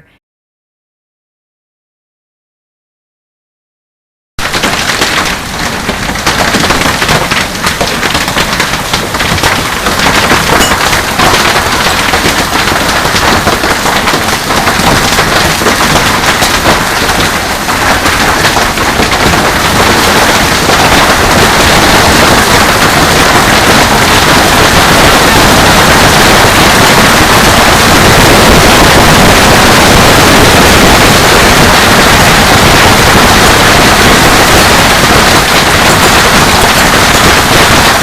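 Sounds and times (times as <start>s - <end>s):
hail clattering: 4.4s - 38.0s.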